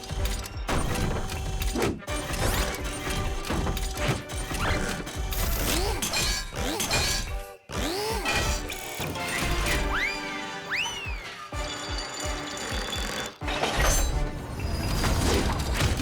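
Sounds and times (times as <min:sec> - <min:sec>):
cartoon clanks and knocks: 0:00.0 - 0:10.0, 0:11.6 - 0:16.0
background music: 0:00.0 - 0:16.0.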